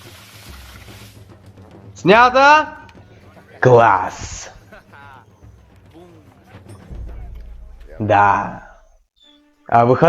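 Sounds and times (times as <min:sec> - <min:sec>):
faint background music: 0:00.1 - 0:10.0.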